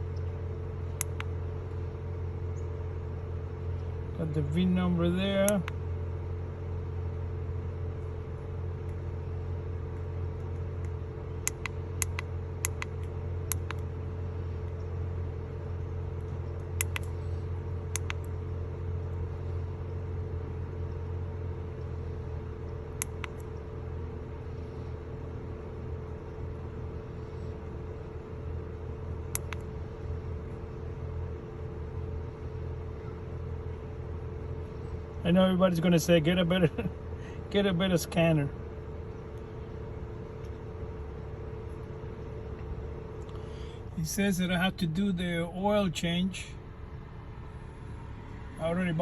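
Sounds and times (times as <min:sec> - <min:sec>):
misfiring car engine idling: 0:00.0 - 0:49.0.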